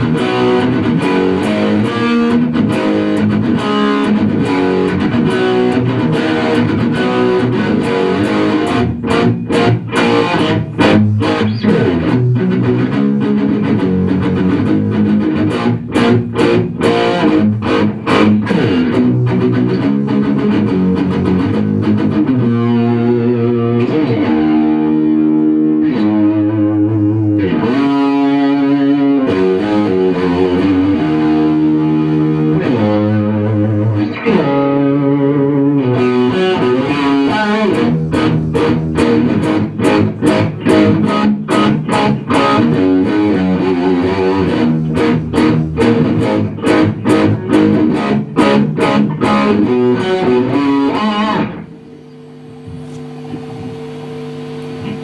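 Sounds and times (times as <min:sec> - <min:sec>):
rock music with distorted guitar: 0:00.0 - 0:53.1.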